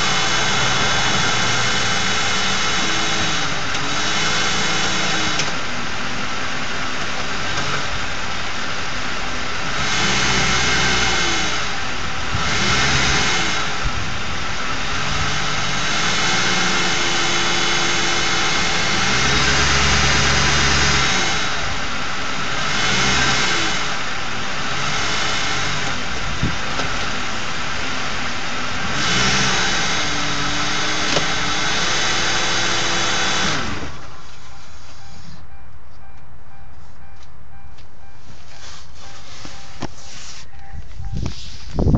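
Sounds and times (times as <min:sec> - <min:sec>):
engine revving: 0:00.0 - 0:34.2
car engine buzzing: 0:00.0 - 0:41.9.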